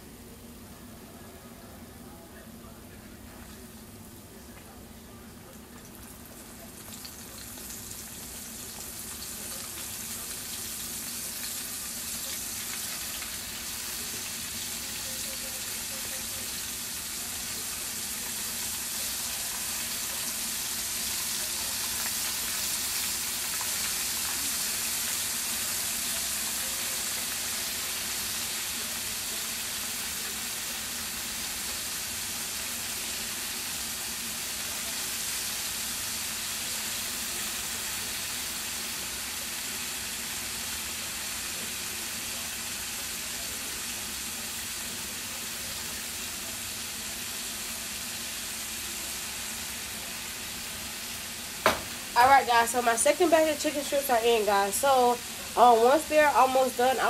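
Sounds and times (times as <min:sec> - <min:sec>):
chicken deep-frying in hot oil: 0:00.0 - 0:57.0.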